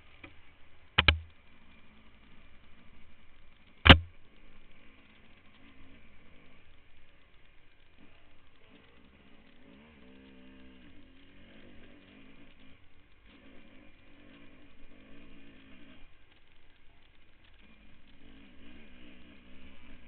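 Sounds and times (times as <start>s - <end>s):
muffled motorcycle engine revving: 0.0s - 20.0s.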